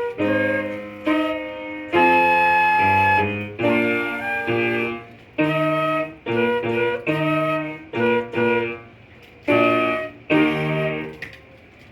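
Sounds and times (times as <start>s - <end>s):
woodwind playing slow melody: 0.0s - 11.2s
piano accompaniment: 0.0s - 11.9s.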